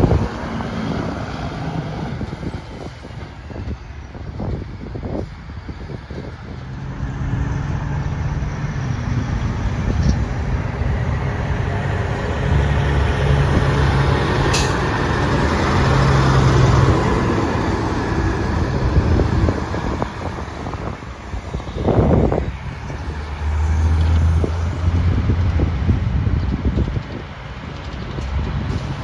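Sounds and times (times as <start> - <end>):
truck diesel engine passing: 0.0 - 29.0.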